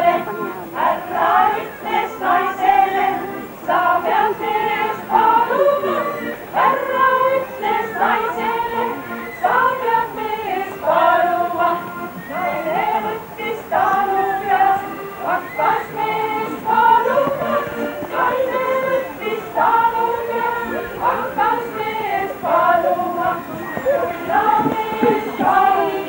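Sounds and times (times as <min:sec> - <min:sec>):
women's choir singing: 0:00.0 - 0:26.0.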